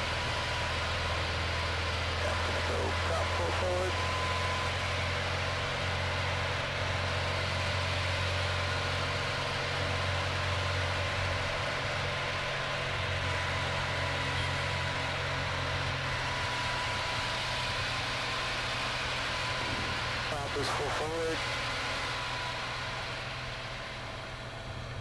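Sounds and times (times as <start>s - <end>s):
propeller plane engine drone: 0.0s - 25.0s.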